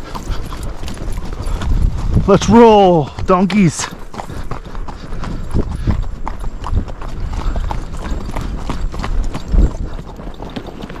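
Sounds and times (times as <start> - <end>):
hooves clip-clopping on dirt: 0.0 - 11.0.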